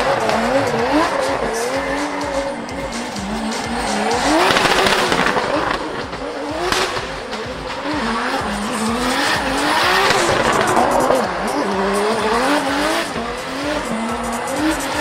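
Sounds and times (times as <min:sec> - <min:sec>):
car engine revving: 0:00.0 - 0:15.0
tyres squealing: 0:00.0 - 0:15.0.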